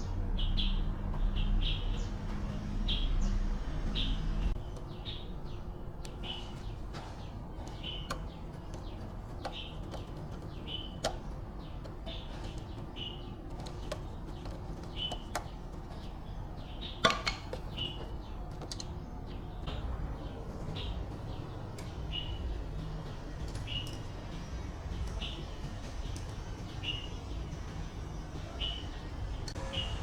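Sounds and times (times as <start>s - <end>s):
small bird chirping: 0.0s - 30.0s.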